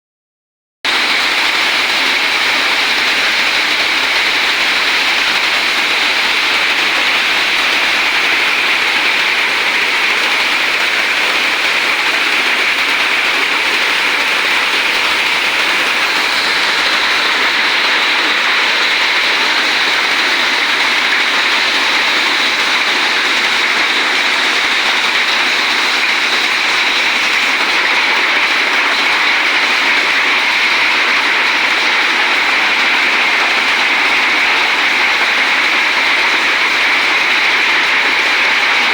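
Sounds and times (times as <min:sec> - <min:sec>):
heavy rain pouring: 0:00.9 - 0:38.9.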